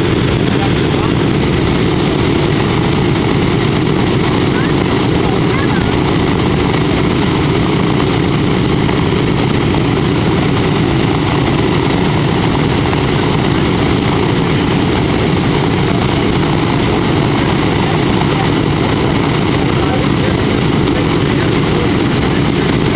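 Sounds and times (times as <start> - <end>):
radial aircraft engines running: 0.0 - 22.9.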